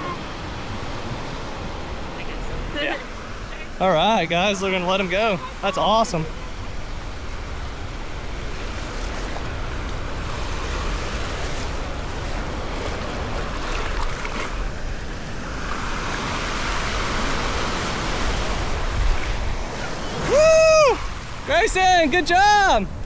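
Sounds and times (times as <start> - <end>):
surf breaking on beach: 0.0 - 23.0
wind rumbling on microphone: 4.3 - 23.0.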